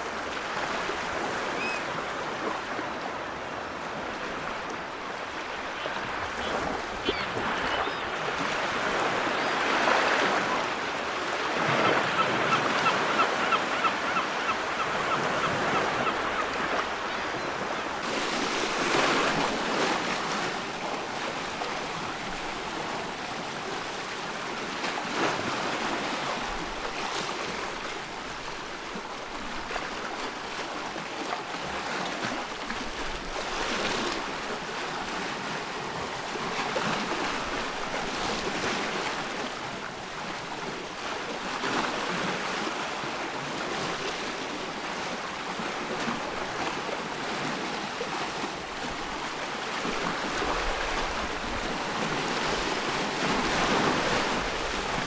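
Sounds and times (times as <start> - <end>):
sea surf washing ashore: 0.0 - 55.0.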